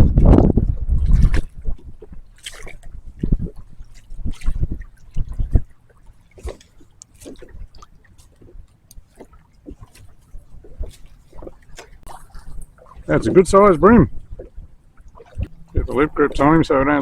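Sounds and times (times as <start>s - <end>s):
water dripping: 0.0s - 17.0s
water splashing: 0.0s - 17.0s.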